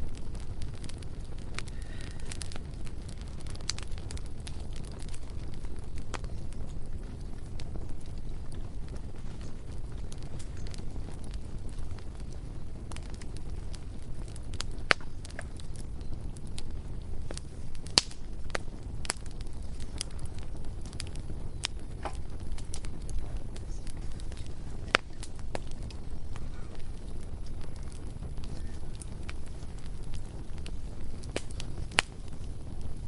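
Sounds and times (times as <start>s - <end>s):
bonfire snaps and pops: 0.0s - 33.0s
low rumble of burning: 0.0s - 33.0s.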